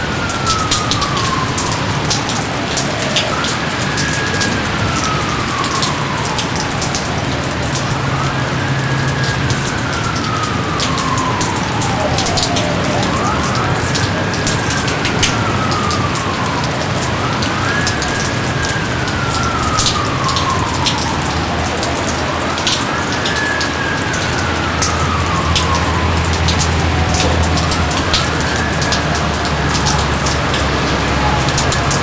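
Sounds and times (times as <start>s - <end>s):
heavy rain: 0.0s - 32.0s
raindrops ticking: 0.0s - 32.0s.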